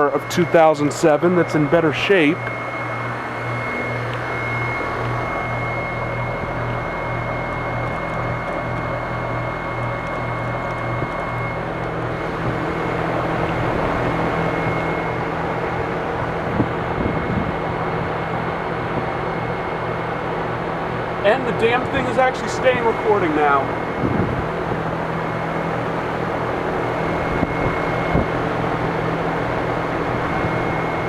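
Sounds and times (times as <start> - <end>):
compressor hum: 0.0 - 31.0
condenser fan rushing: 0.0 - 31.0
thin high whine: 0.0 - 31.0.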